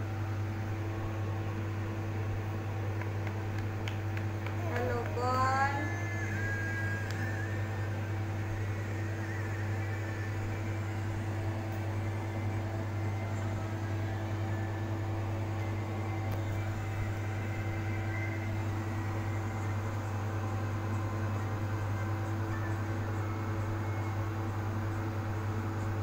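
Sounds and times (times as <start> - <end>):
electric fan whirring: 0.0 - 26.0.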